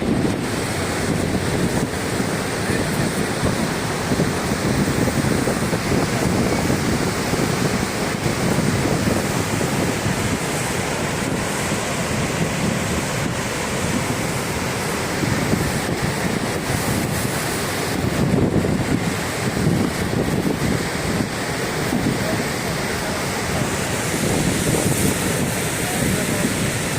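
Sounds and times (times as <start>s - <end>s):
waterfall rushing: 0.0s - 26.9s
wind buffeting microphone: 0.0s - 26.9s.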